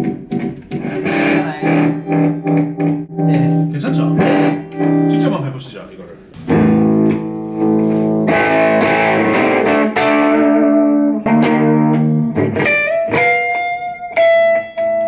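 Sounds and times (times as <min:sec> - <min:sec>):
electric guitar through amplifier: 0:00.0 - 0:15.0.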